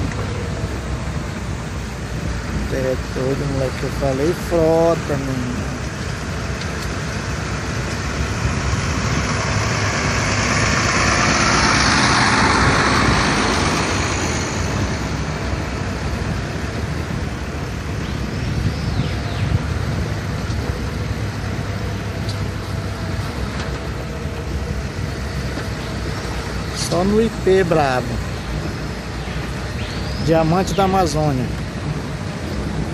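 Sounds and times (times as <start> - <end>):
road noise: 0.0 - 32.9
vehicle engine rumble: 0.0 - 32.9.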